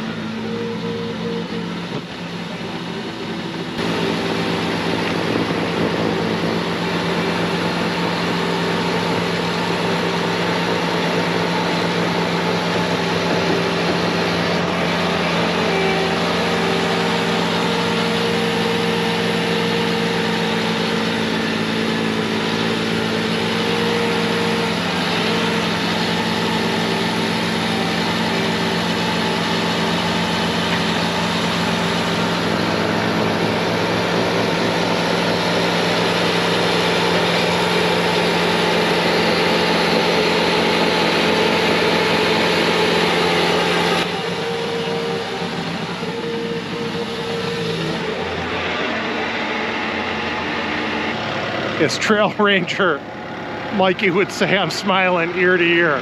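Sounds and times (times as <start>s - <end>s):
diesel engine at full throttle: 0.0s - 56.0s.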